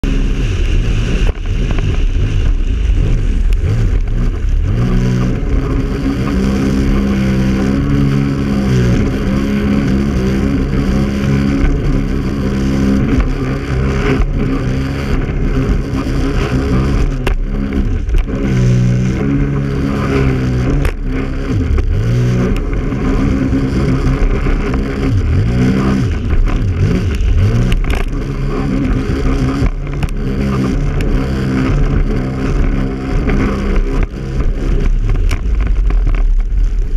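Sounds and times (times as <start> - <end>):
personal watercraft engine revving: 0.0 - 36.9
rush of wind and water: 0.0 - 36.9.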